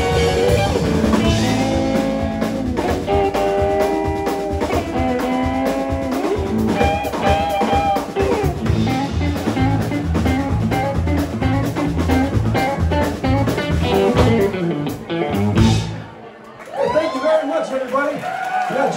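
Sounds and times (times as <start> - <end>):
drum kit: 0.0 - 16.1
repeating bass line: 0.0 - 16.1
electric guitar: 0.0 - 16.2.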